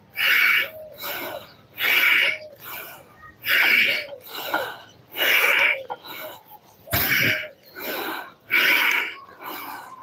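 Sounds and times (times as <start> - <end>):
man breathing heavily: 0.0 - 10.0.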